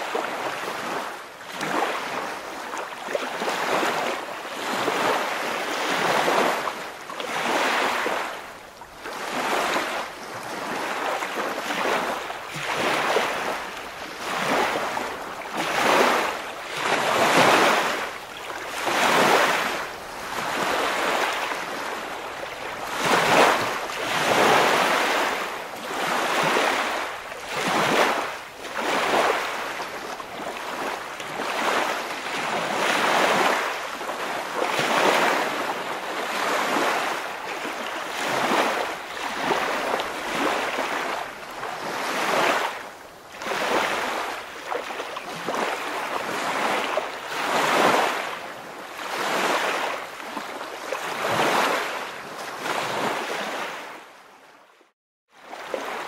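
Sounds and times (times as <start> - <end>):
waves washing in: 0.0 - 54.1, 55.4 - 56.0.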